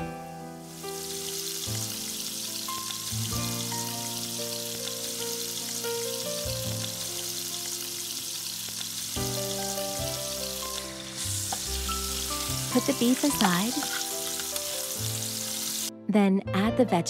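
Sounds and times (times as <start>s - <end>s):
meat sizzling in hot oil: 0.0s - 15.9s
light background music: 0.0s - 17.0s.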